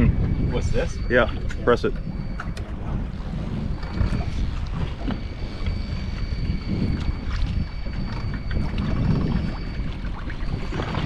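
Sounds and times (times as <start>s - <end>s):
thin high whine: 0.0s - 11.0s
wind buffeting microphone: 0.0s - 11.0s.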